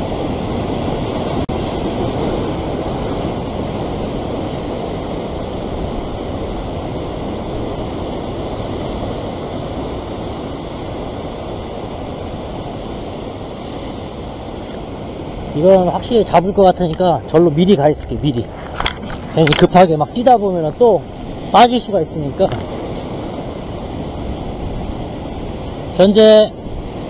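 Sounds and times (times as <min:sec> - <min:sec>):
ocean surf breaking on rocks: 0:00.0 - 0:27.0.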